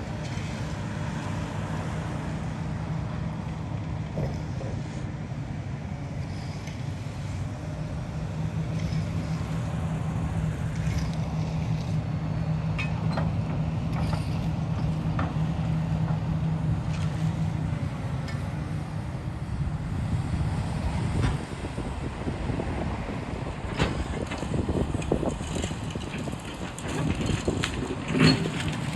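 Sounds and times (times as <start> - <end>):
demolition machine engine running: 0.0 - 28.9.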